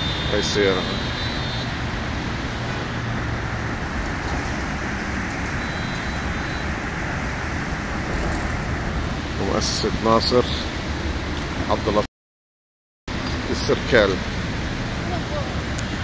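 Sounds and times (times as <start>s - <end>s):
distant street traffic rumble: 0.0s - 12.1s, 13.1s - 16.0s.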